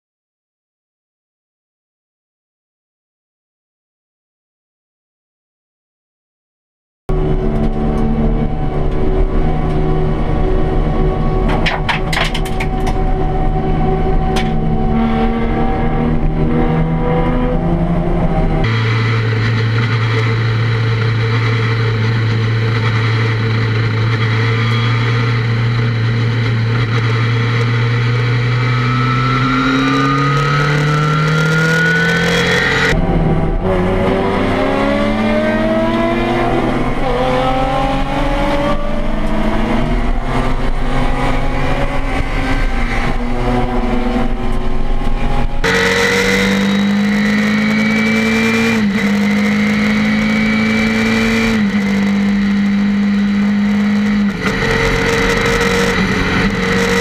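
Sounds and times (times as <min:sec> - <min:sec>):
race car engine revving: 0:07.1 - 0:57.0.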